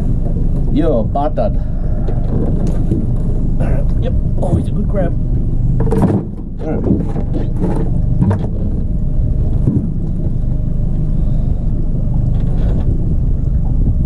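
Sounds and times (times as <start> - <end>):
fishing boat engine rumble: 0.0 - 14.0
wind on microphone: 0.0 - 14.0.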